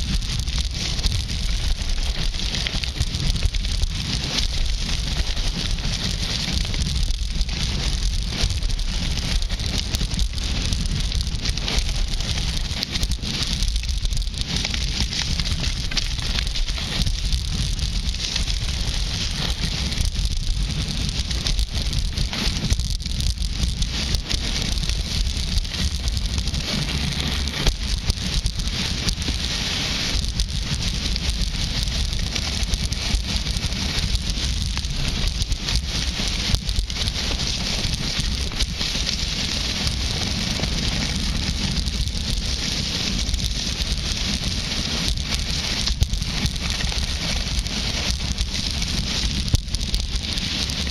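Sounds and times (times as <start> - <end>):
skis scraping over snow: 0.0 - 50.9
wind rumbling on microphone: 0.0 - 50.9.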